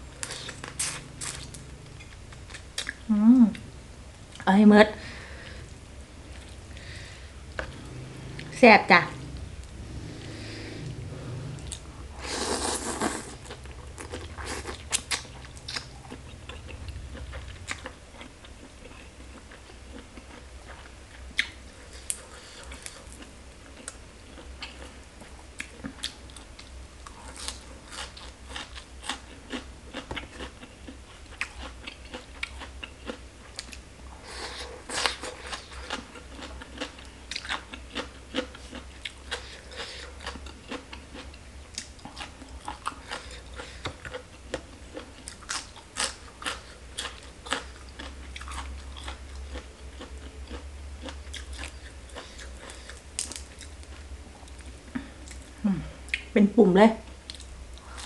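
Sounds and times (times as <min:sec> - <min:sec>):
wet chewing with crunches: 0:00.2 - 0:03.0, 0:12.4 - 0:56.3.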